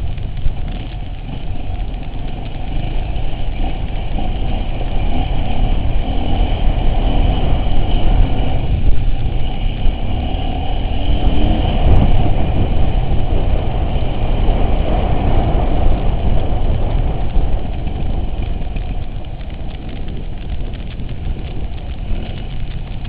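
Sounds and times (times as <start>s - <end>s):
off-road vehicle rumbling: 0.0s - 23.0s.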